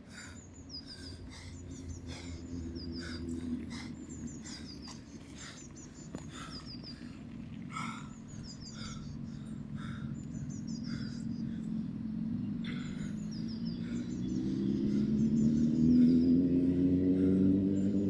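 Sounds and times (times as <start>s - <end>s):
low humming drone: 0.0s - 18.0s
low outdoor rumble: 0.0s - 18.0s
small birds singing: 0.0s - 18.0s.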